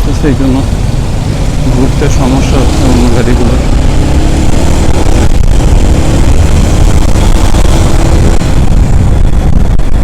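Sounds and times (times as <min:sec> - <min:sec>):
hum of surrounding vehicles: 0:00.0 - 0:10.0
motorcycle engine rumble: 0:00.0 - 0:10.0
road and wind noise: 0:00.0 - 0:10.0.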